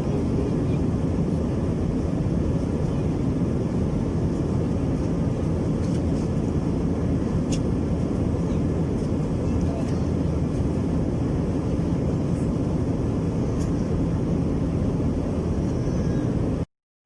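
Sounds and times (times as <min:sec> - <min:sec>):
airplane cabin engine rumble: 0:00.0 - 0:16.7.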